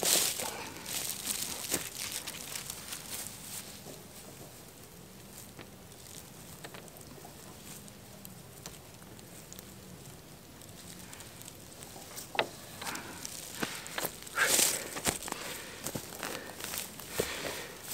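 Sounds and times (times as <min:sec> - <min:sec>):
crunches in dry grass: 0:00.0 - 0:17.9
dry grass rustling and crackling: 0:00.0 - 0:17.9.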